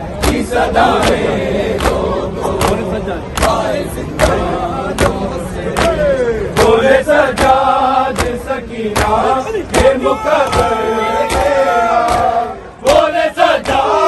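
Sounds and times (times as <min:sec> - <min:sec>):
crowd of men chanting: 0:00.0 - 0:14.0.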